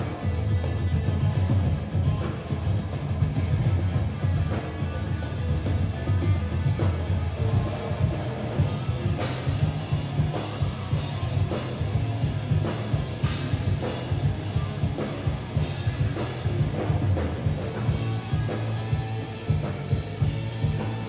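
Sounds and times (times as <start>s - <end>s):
electric guitars: 0.0s - 21.0s
pounding drum kit: 0.0s - 21.0s.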